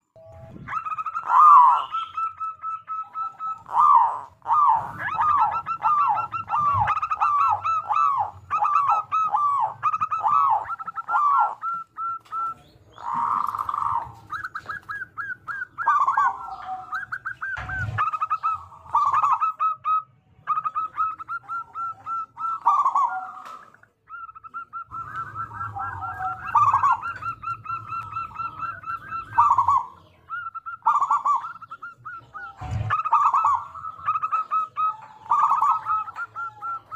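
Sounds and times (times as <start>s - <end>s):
doves cooing: 0.0s - 36.9s.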